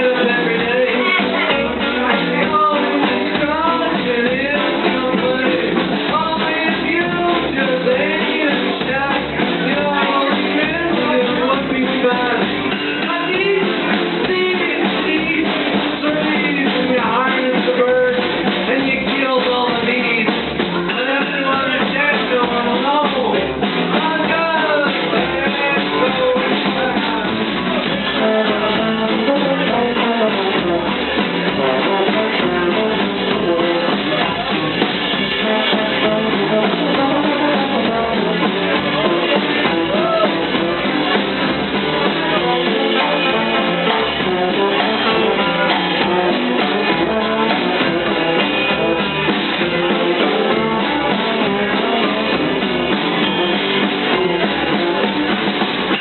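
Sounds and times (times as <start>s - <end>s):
live swing band playing: 0.0s - 56.0s.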